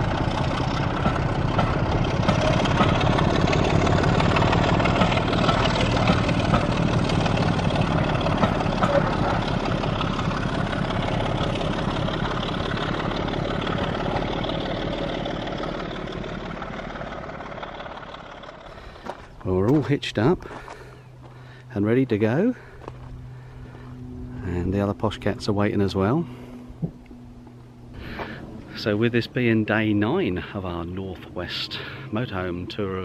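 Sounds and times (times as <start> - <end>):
heavy engine running: 0.0 - 33.0.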